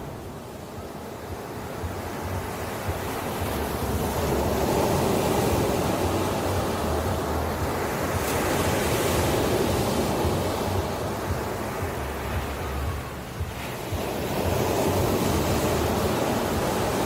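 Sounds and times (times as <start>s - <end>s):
ocean waves washing onto shore: 0.0s - 17.0s.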